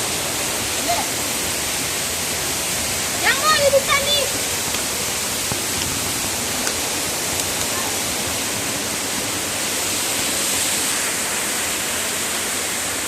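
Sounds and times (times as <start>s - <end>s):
fast-flowing water rushing: 0.0s - 13.0s.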